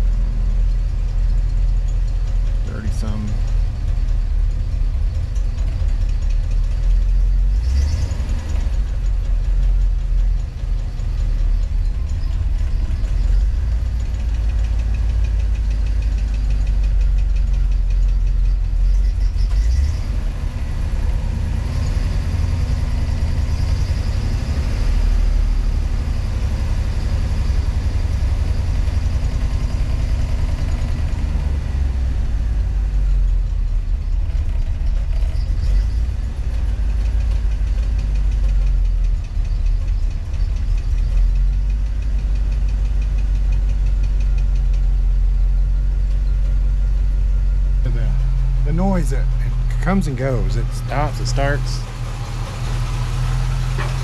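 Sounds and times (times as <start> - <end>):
engine idling: 0.0 - 54.0
mechanical engine noise: 0.0 - 54.0.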